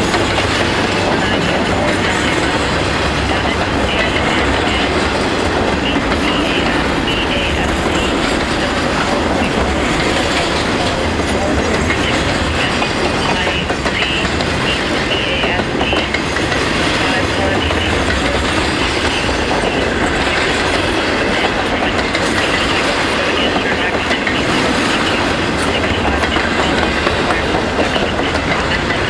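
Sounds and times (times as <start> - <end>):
freight train wheels clacking: 0.0 - 29.0.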